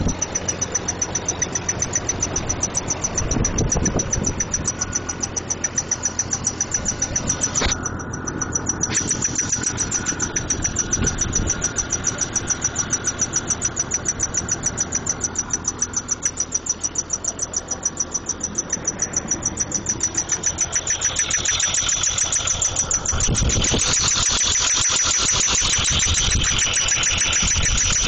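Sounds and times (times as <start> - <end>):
car engine idling: 0.0 - 28.0
fast even engine ticking: 0.0 - 28.0.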